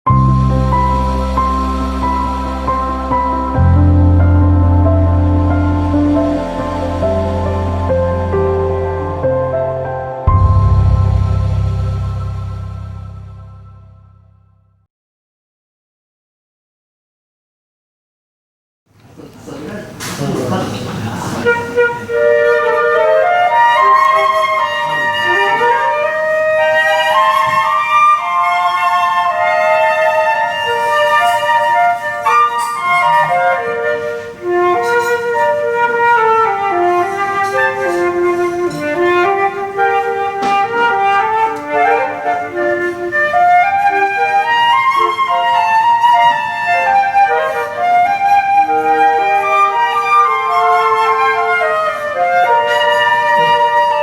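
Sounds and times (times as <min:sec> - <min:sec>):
flutes playing in harmony: 0:00.1 - 0:14.0, 0:21.2 - 0:54.0.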